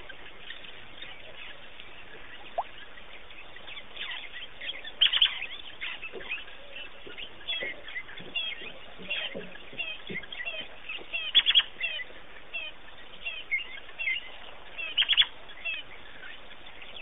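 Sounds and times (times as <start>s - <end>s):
birds chirping: 0.0s - 17.0s
steady background hiss: 0.0s - 17.0s.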